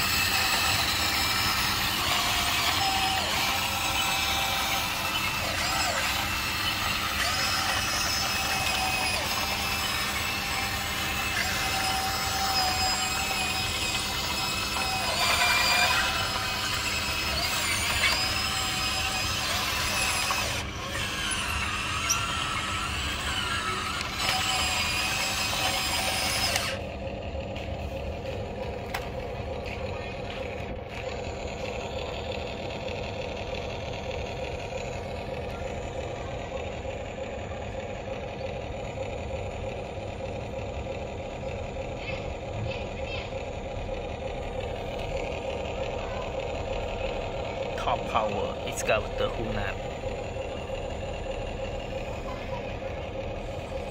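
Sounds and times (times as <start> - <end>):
electric motors whining: 0.0 - 53.9
steady pulsing hum: 0.0 - 53.9.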